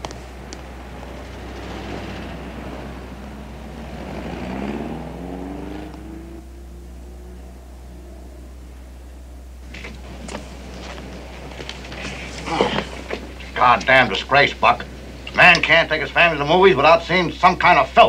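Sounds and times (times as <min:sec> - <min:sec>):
car engine accelerating: 0:00.0 - 0:17.4
cars passing: 0:00.0 - 0:17.9
steady low hum: 0:00.0 - 0:18.0.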